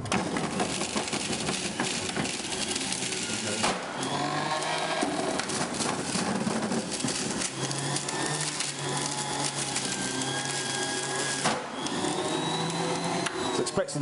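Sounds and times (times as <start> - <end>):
carrots being shredded: 0.0 - 14.0
juicer motor hum: 0.0 - 14.0.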